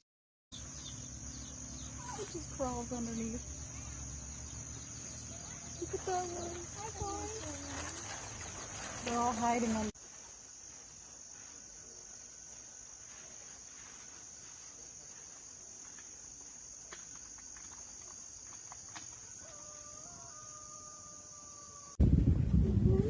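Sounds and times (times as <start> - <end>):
high-pitched insect chorus: 0.6 - 22.0.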